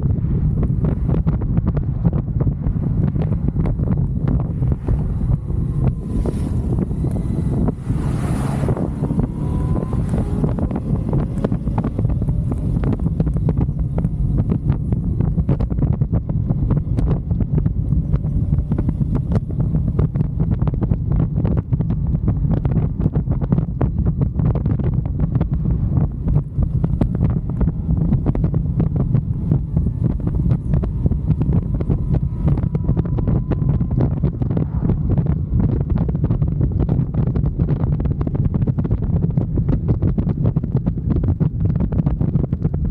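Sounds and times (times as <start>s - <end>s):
faint motorcycle engine: 0.0s - 42.9s
wind buffeting microphone: 0.0s - 42.9s.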